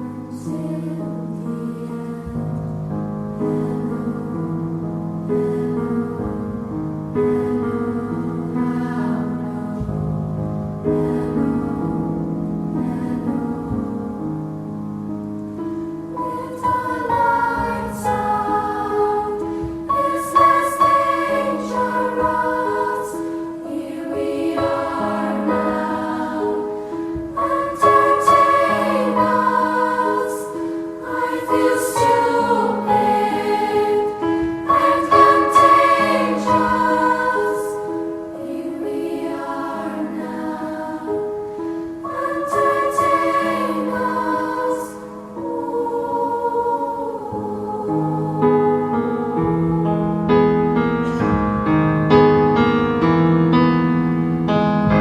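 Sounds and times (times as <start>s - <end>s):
choral singing: 0.0s - 51.7s.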